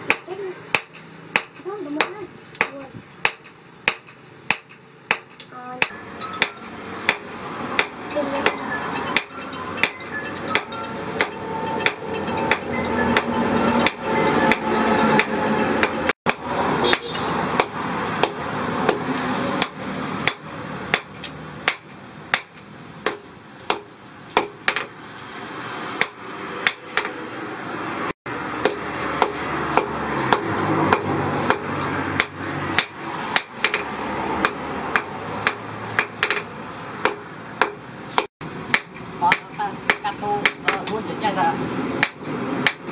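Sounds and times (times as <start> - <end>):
hammer striking metal on anvil: 0.0 - 19.0, 19.6 - 24.9, 26.0 - 27.2, 28.6 - 41.0, 42.0 - 42.9.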